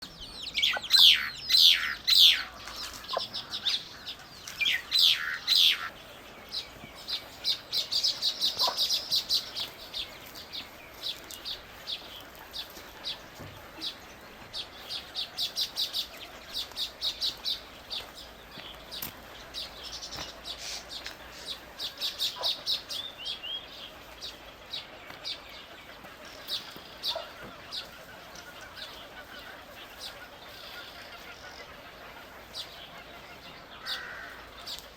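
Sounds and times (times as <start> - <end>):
sharp falling bird calls: 0.0 - 34.9.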